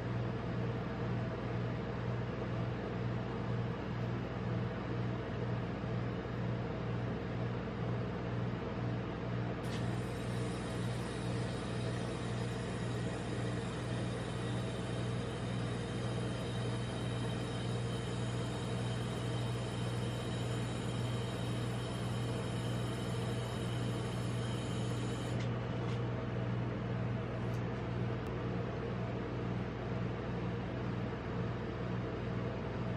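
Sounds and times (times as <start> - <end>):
refrigeration compressor hum: 0.0 - 32.9.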